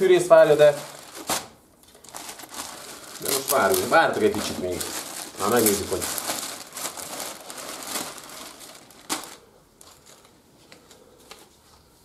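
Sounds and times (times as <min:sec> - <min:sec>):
plastic bag crinkling and rustling: 0:00.0 - 0:11.5.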